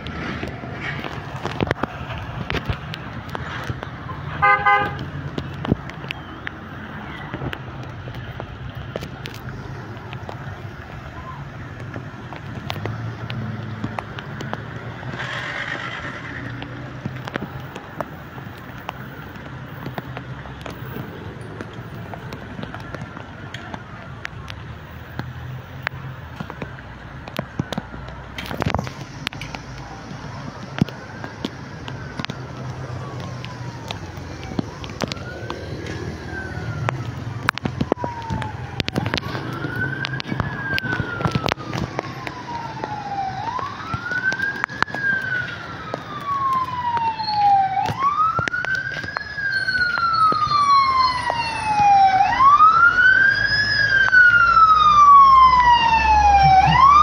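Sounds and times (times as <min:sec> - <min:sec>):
emergency vehicle siren wailing: 0:00.0 - 0:57.0.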